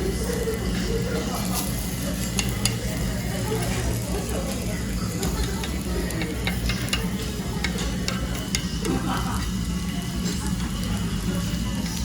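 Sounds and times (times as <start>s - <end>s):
batter and bacon sizzling: 0.0s - 12.0s.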